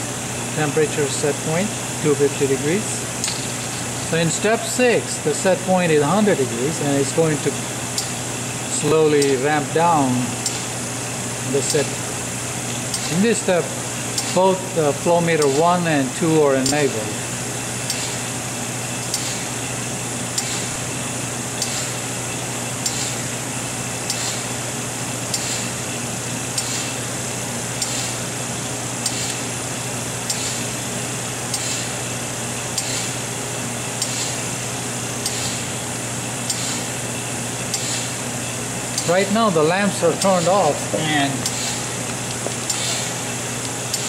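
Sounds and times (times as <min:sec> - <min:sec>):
oven humming and hissing: 0:00.0 - 0:44.0.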